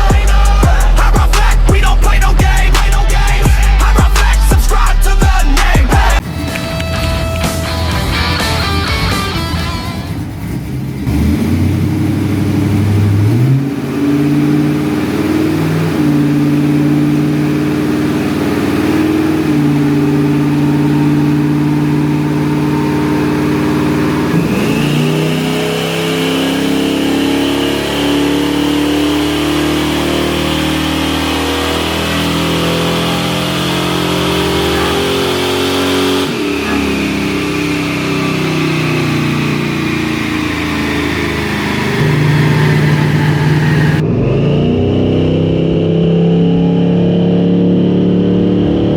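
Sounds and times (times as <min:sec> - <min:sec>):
engine running under load: 0:00.0 - 0:48.9.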